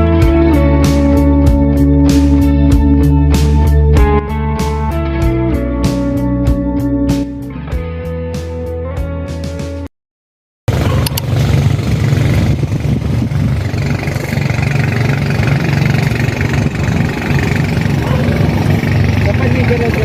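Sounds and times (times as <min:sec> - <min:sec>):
vehicle engine rumbling: 0:00.0 - 0:08.1, 0:10.7 - 0:20.0.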